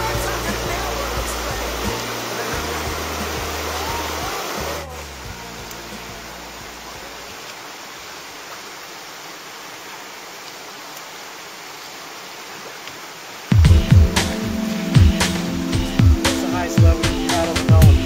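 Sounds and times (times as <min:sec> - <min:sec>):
whitewater rapids rushing: 0:00.0 - 0:18.0.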